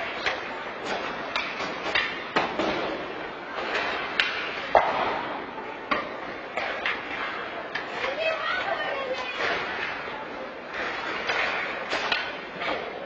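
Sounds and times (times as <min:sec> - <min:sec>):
hockey sticks and puck clacking: 0:00.0 - 0:13.0
noisy rink background: 0:00.0 - 0:13.0.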